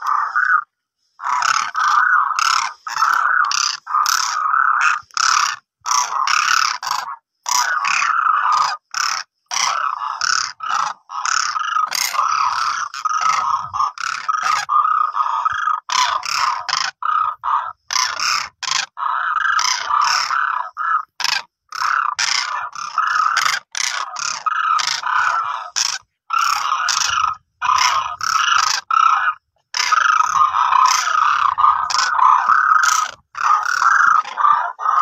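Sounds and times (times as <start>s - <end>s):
cranes croaking calls: 0.0s - 35.0s.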